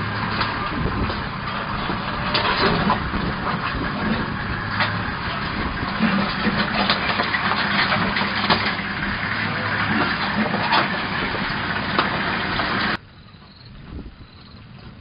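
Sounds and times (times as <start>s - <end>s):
vehicle engine running at low speed: 0.0s - 15.0s.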